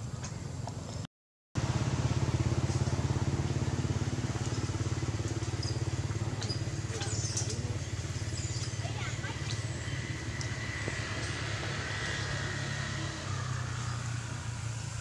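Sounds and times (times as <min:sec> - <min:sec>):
small engine running: 0:01.6 - 0:15.0.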